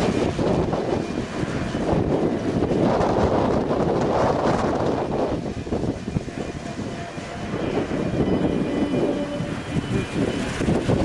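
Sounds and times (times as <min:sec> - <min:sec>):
ferry engines rumbling: 0:00.0 - 0:11.0
wind buffeting microphone: 0:00.0 - 0:11.0.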